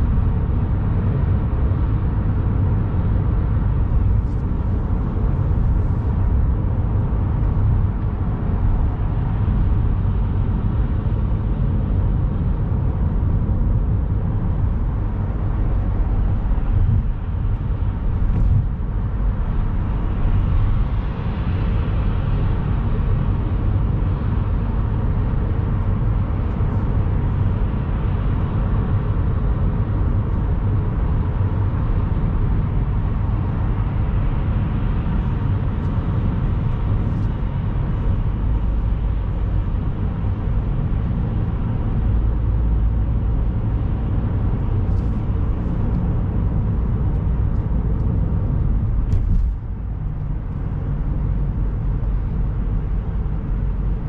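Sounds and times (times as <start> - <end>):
car road rumble: 0.0 - 54.0.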